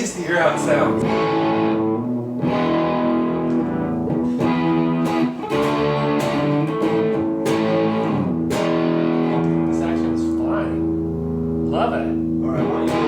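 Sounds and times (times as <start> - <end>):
electric guitar chords strummed: 0.4 - 13.0.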